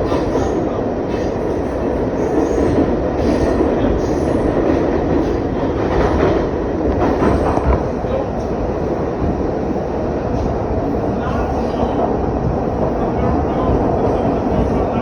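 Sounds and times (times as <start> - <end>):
subway car rumbling on rails: 0.0 - 15.0.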